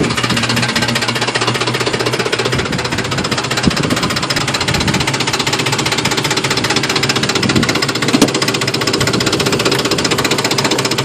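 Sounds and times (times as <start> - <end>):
engine idling with rapid knocking: 0.0 - 11.0.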